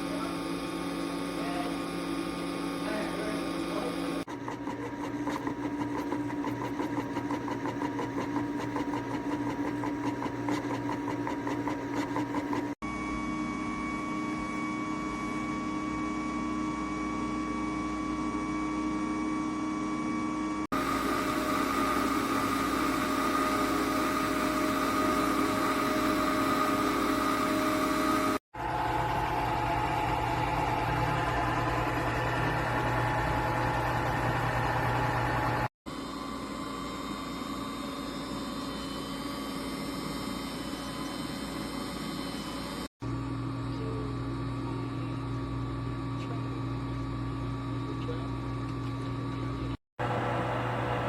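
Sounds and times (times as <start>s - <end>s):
ice cream maker motor hum: 0.0s - 51.0s.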